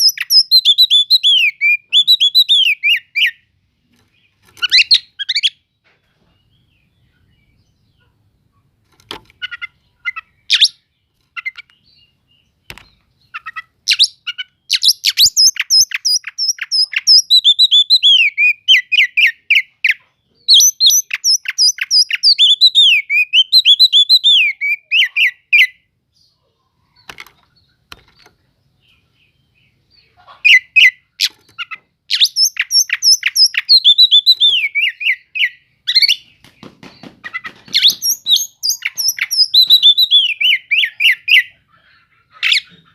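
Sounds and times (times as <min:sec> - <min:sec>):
bird singing chattering notes: 0:00.0 - 0:05.7, 0:09.3 - 0:26.3, 0:26.9 - 0:41.6.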